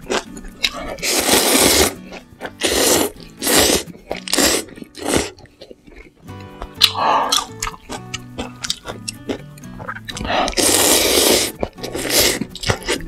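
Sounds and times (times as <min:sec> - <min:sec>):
noodles being slurped: 0:00.0 - 0:05.8, 0:07.3 - 0:13.0.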